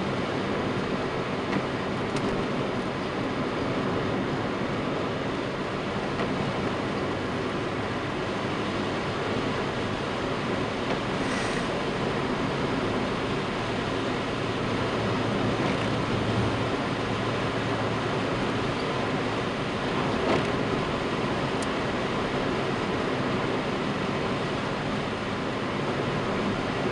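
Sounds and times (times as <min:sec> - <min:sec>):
car engine hum: 0:00.0 - 0:26.9
tyre noise on wet road: 0:00.0 - 0:26.9
windscreen wiper tick: 0:00.3 - 0:26.9.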